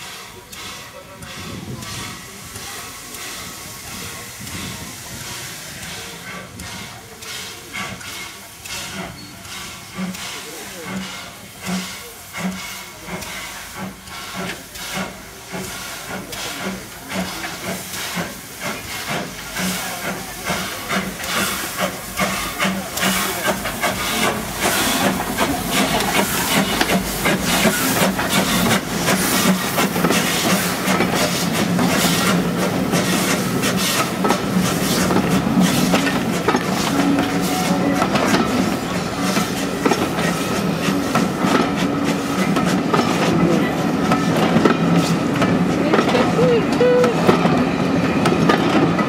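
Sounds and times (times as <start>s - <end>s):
steam engine chuffing: 0.0s - 49.0s.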